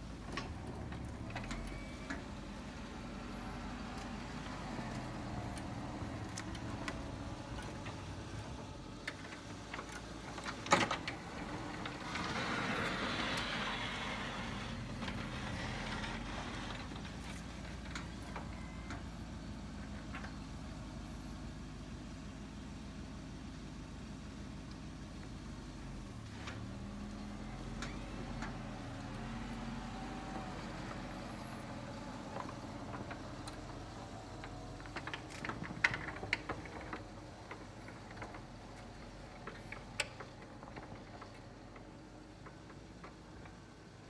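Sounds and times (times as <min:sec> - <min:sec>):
plow blade pushing snow: 0:00.0 - 0:22.5, 0:23.2 - 0:44.0.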